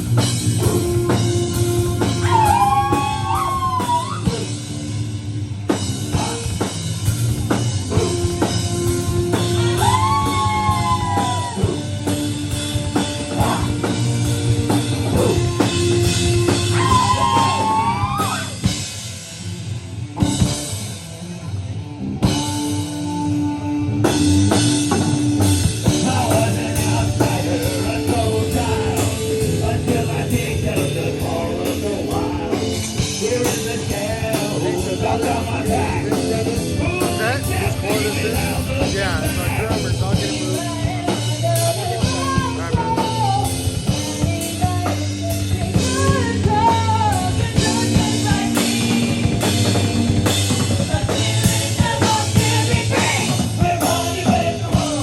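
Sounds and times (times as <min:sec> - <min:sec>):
instrumental rock music: 0:00.0 - 0:55.0.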